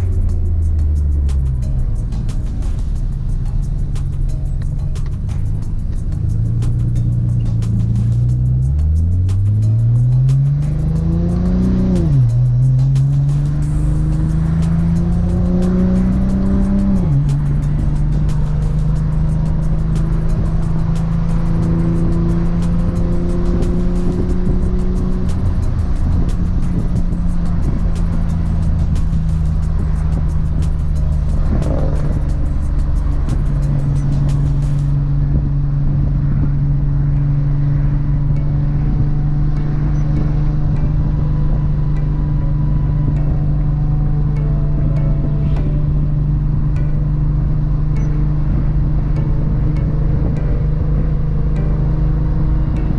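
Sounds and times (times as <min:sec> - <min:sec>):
car engine running steadily: 0:00.0 - 0:52.9.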